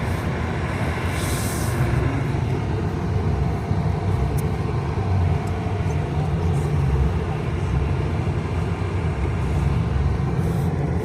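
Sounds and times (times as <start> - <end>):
low rumble of vehicle noise: 0.0 - 11.0.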